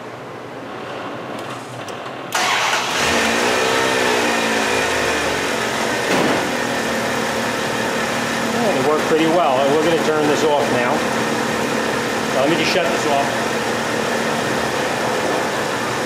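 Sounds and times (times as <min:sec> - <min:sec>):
car engine starting and idling: 0:01.4 - 0:16.0.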